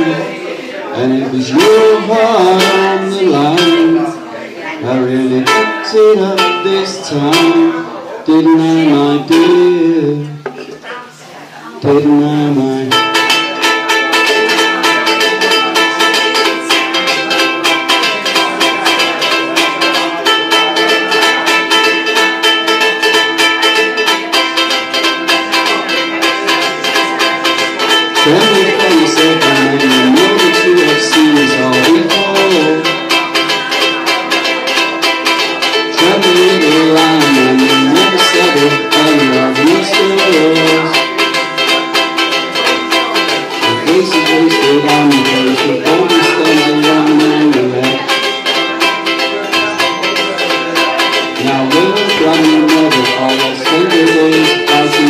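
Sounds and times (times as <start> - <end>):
man singing: 0.0 - 10.6, 11.8 - 55.0
ukulele strummed fast: 0.0 - 10.8, 11.9 - 55.0.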